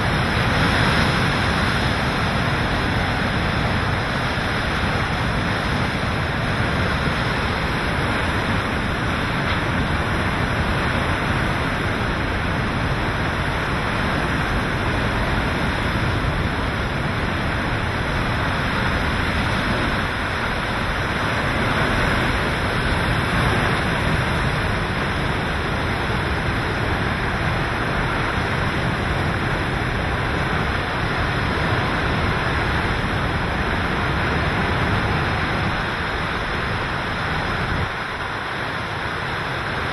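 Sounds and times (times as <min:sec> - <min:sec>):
driving rain: 0:00.0 - 0:39.9
strong wind: 0:00.0 - 0:39.9.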